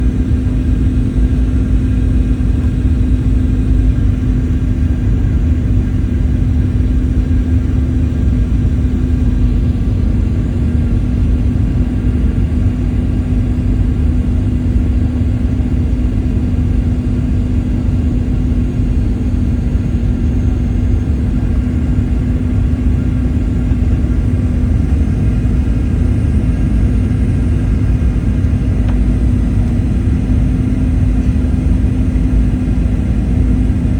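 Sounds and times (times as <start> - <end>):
jet engines rumbling: 0.0 - 33.9.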